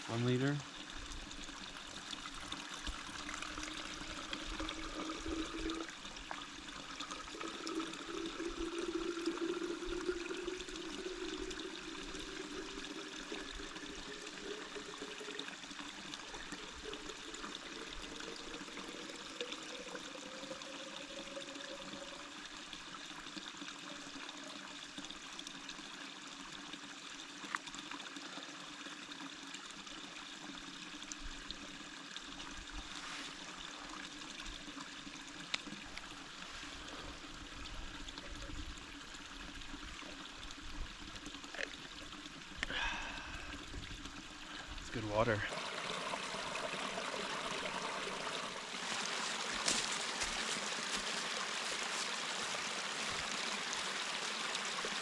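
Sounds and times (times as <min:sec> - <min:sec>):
water trickling into flask: 0:00.0 - 0:55.0.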